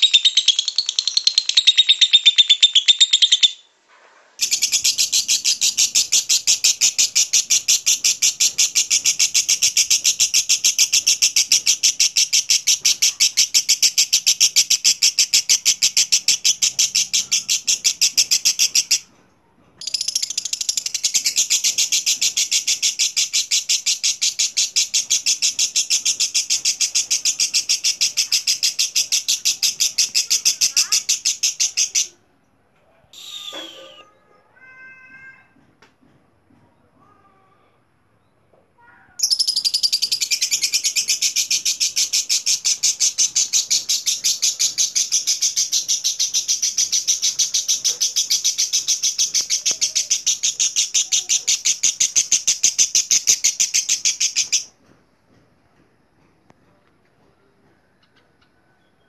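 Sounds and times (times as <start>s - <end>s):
lovebird chattering shrilly: 0.0s - 3.6s, 4.4s - 19.0s, 19.8s - 32.1s, 33.2s - 35.4s, 39.2s - 54.7s.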